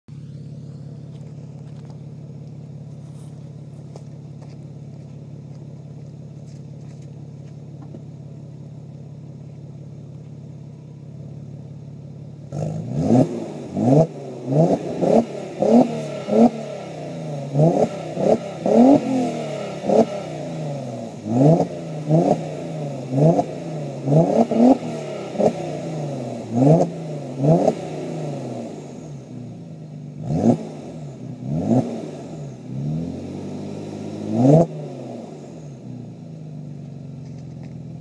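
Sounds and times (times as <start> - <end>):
car exhaust idling and revving: 0.1 - 38.0.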